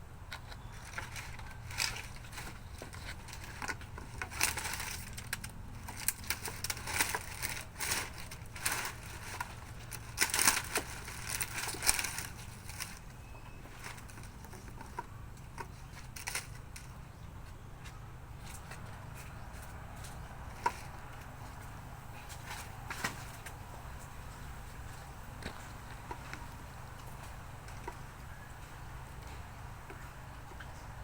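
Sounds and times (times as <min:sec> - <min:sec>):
crackling and crunching: 0:00.0 - 0:31.0.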